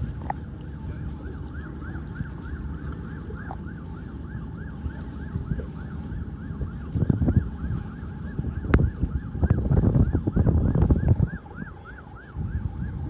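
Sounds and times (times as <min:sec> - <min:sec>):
emergency siren yelping: 0:00.0 - 0:13.0
wind rumble on microphone: 0:00.0 - 0:13.0.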